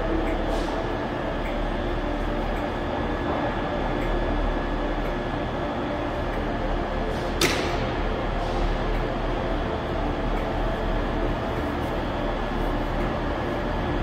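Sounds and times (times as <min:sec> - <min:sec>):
low train engine hum: 0:00.0 - 0:14.0.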